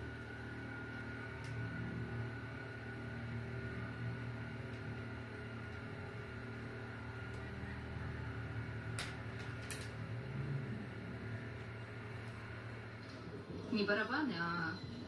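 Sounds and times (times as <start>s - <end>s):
faint thin whine: 0.0s - 15.0s
low hum: 0.0s - 15.0s.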